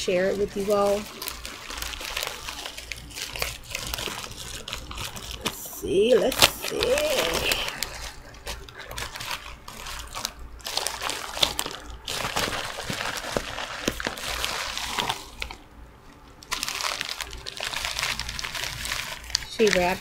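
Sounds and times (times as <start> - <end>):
bubble wrap envelope crinkling: 0.0 - 20.0.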